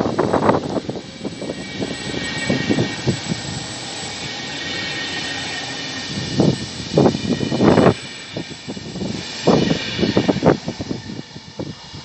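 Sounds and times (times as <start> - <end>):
faint steady whine: 0.0 - 12.0
steel wheels rumbling on rails: 0.0 - 12.0.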